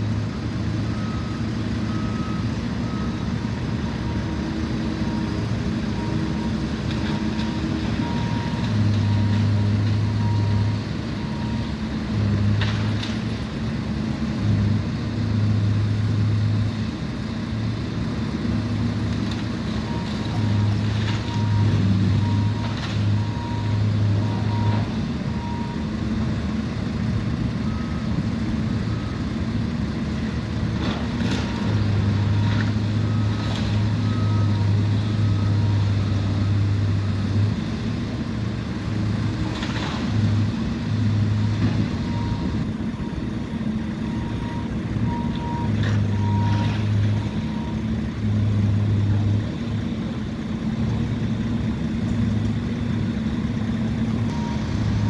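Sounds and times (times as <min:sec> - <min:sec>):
heavy diesel machinery drone: 0:00.0 - 0:55.0.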